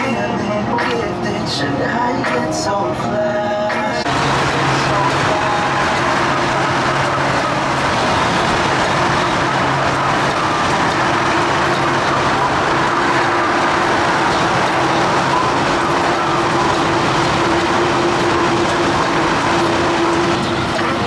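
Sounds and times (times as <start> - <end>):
loud mechanical drone: 4.0 - 21.0.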